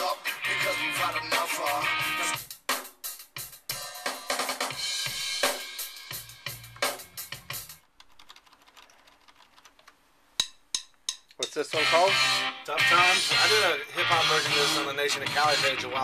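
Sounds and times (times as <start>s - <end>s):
drum kit playing: 0.0s - 7.8s, 10.4s - 16.0s.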